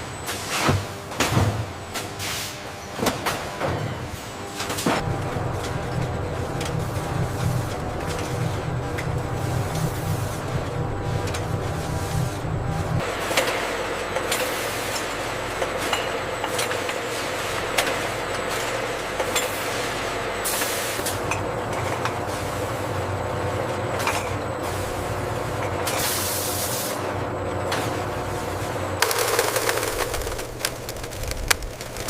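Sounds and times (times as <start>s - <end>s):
production-line machinery running: 0.0s - 32.0s.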